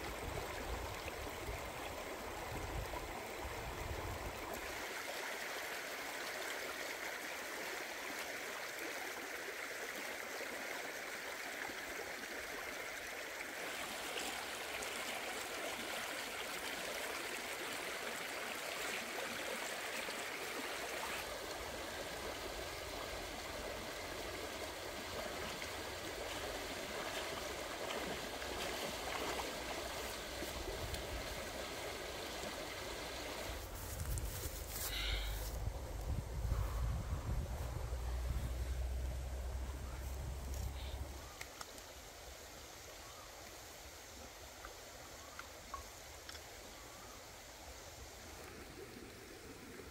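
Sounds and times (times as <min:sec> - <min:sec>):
stream flowing over rocks: 0:00.0 - 0:34.9, 0:38.5 - 0:49.9.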